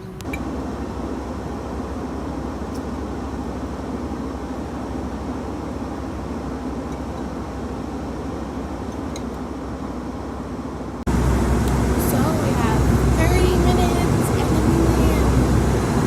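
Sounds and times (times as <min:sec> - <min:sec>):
jet engines rumbling: 0:00.0 - 0:16.0
rushing air: 0:00.0 - 0:16.0.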